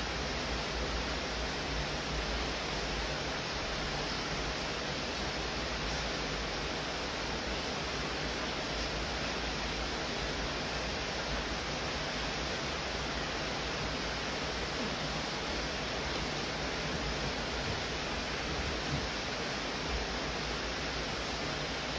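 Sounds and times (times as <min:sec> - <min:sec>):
steady rain hiss: 0:00.0 - 0:21.9.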